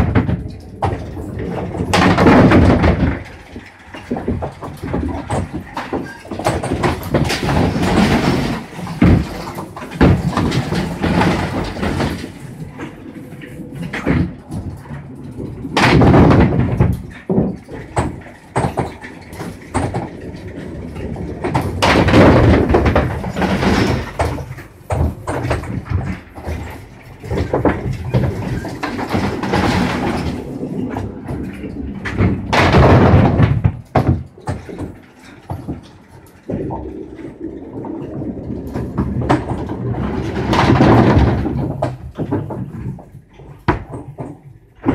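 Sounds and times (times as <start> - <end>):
bowling balls rumbling: 0.0 - 44.9.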